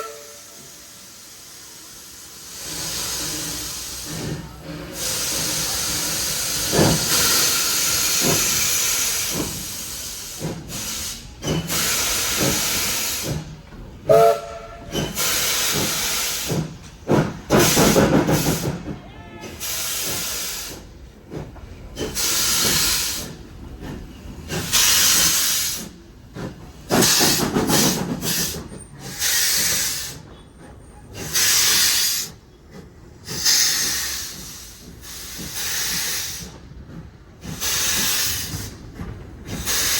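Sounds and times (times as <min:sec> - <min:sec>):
hissing bursts of steam: 0:00.0 - 0:30.3, 0:31.1 - 0:39.9
steam locomotive working: 0:00.0 - 0:39.9.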